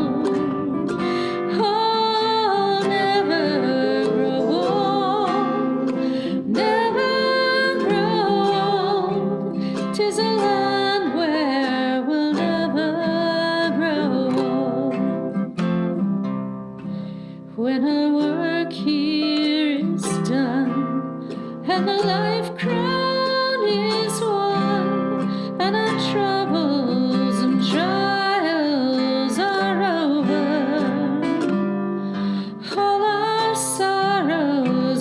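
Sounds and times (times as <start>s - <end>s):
person singing a hymn: 0.0s - 15.2s, 21.7s - 35.0s
acoustic guitar: 0.0s - 35.0s.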